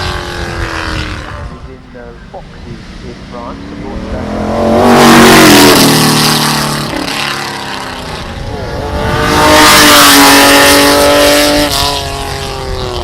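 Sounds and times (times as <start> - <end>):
racing car engines accelerating: 0.0 - 13.0.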